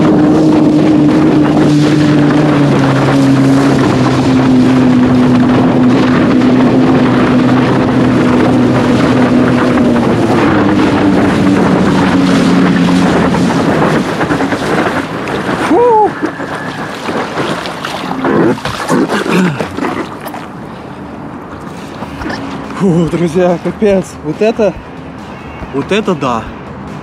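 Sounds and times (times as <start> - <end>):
wind on microphone: 0.0 - 22.8
rushing water: 0.0 - 27.0.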